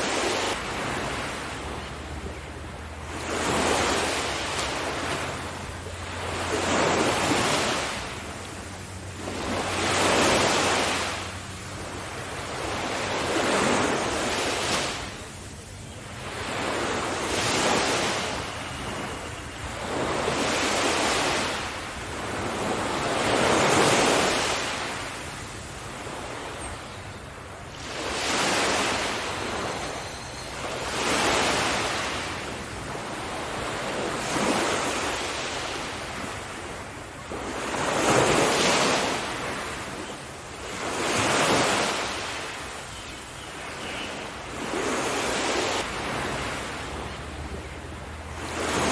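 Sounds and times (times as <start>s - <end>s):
ocean waves breaking: 0.0s - 48.9s.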